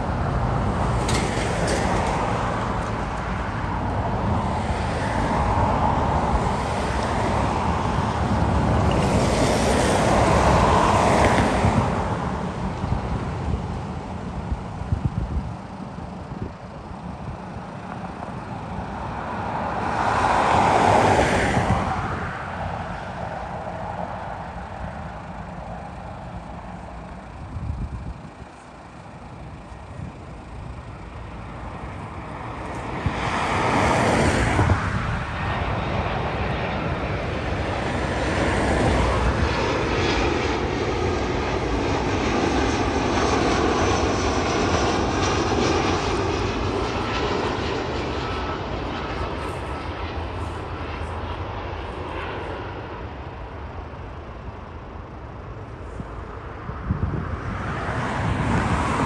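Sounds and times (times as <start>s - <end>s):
road vehicle passing: 0.0s - 15.3s, 16.0s - 51.2s
jet engines roaring with whine: 0.0s - 59.0s.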